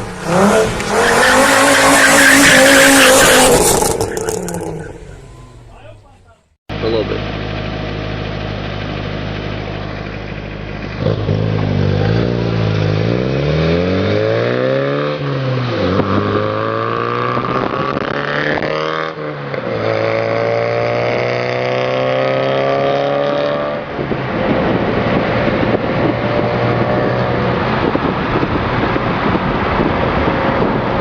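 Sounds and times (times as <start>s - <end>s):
wind and road noise: 0.0s - 6.5s, 7.3s - 31.0s
car engine accelerating: 0.0s - 31.0s.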